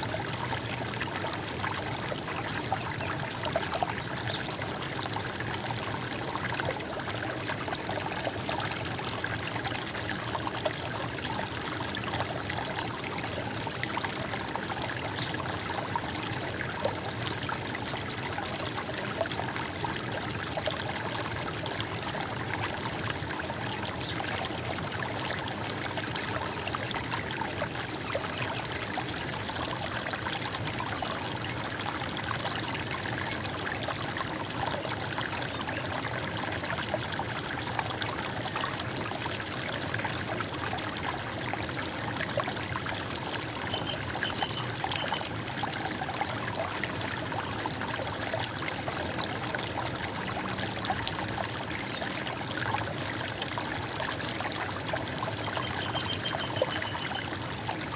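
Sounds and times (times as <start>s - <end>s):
stream water gurgling: 0.0s - 57.9s.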